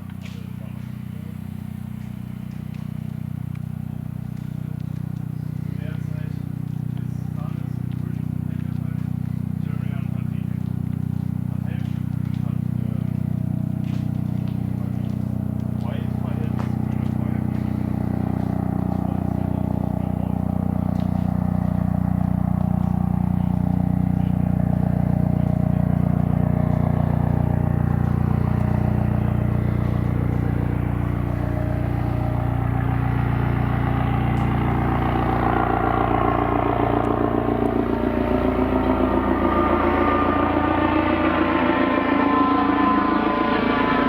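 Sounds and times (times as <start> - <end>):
helicopter engines and rotor: 0.0 - 44.0.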